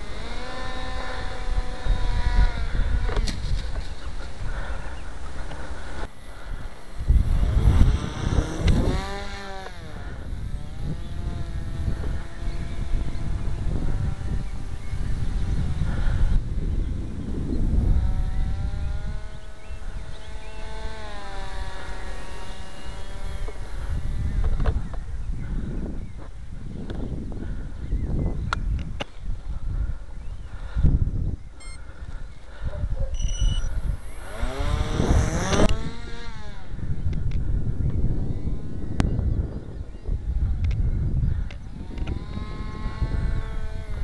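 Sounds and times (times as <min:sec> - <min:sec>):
motor and propeller whine: 0:00.0 - 0:26.1, 0:31.6 - 0:44.0
wind rumble on microphone: 0:00.0 - 0:44.0.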